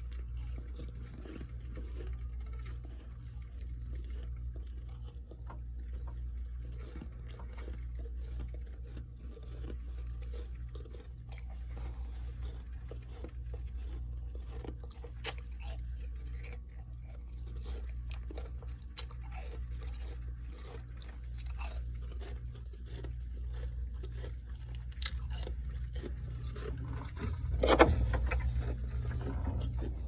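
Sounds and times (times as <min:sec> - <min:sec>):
chewing crunches: 0:00.0 - 0:30.0
low steady hum: 0:00.0 - 0:30.0.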